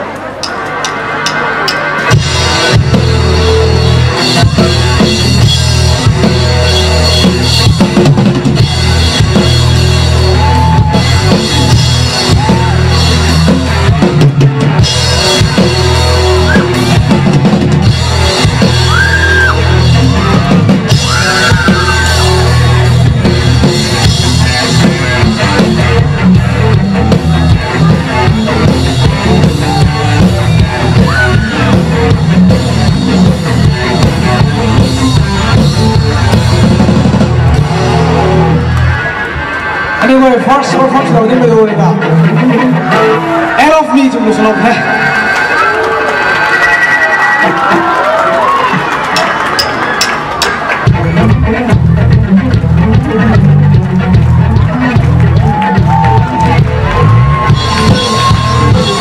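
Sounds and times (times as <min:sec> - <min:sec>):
live rock band playing: 0:00.0 - 0:59.0
bending guitar notes: 0:00.3 - 0:44.3, 0:49.0 - 0:59.0.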